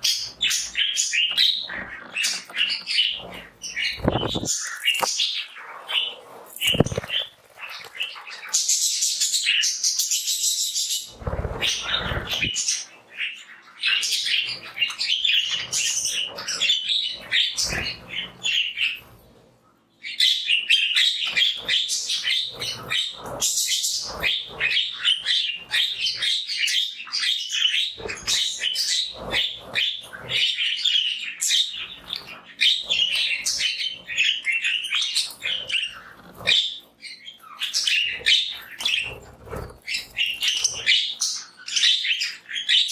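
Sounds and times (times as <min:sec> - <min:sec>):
budgies chirping and chattering: 0:00.0 - 0:42.9.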